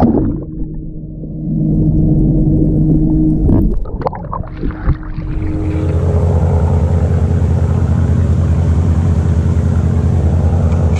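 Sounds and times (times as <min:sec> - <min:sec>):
boat engine running: 0:00.0 - 0:10.9
muffled underwater drone: 0:00.0 - 0:10.9.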